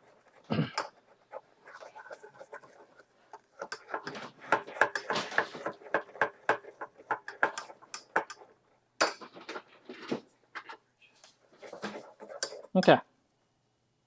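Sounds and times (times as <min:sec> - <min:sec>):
utensil scraping paste in saucepan: 0:00.0 - 0:13.0.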